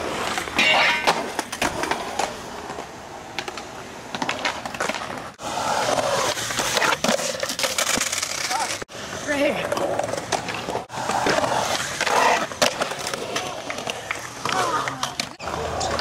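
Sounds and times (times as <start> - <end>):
skateboard clacks: 0.0 - 16.0
skateboard wheels rolling on concrete: 0.0 - 16.0.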